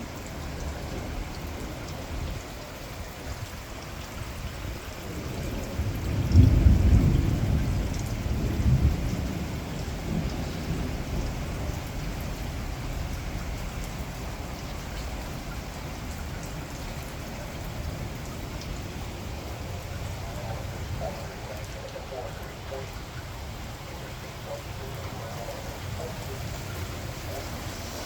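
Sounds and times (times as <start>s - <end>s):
steady rain: 0.0s - 28.0s
thunder rumbling: 0.2s - 28.0s.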